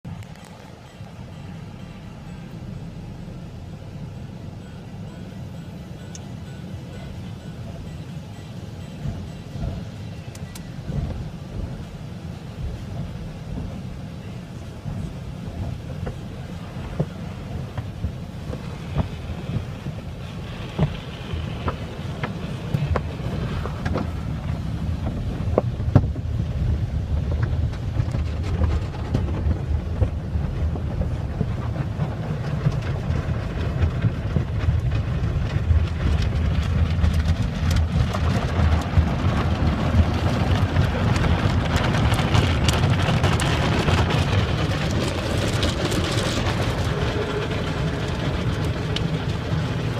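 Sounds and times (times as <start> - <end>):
car wash machinery rumbling: 0.0 - 49.9.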